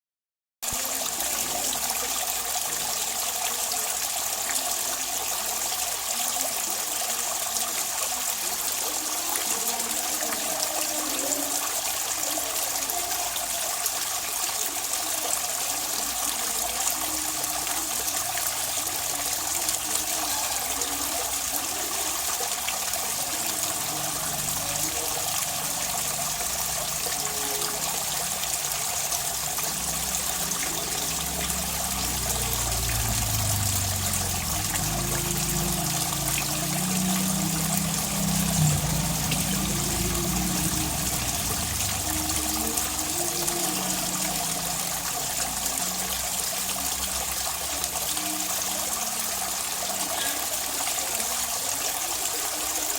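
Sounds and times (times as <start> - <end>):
water trickling and splashing: 0.6 - 52.9.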